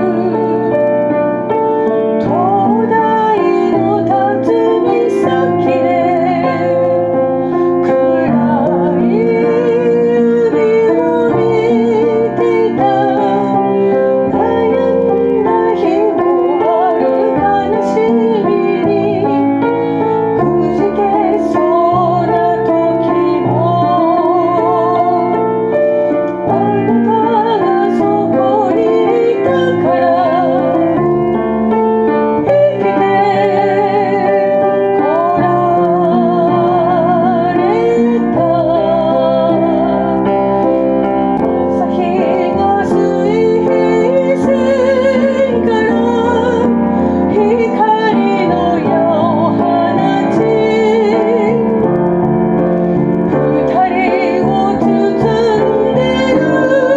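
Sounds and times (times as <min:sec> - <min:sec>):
person singing ballad with vibrato: 0:00.0 - 0:56.9
piano accompaniment: 0:00.0 - 0:56.9.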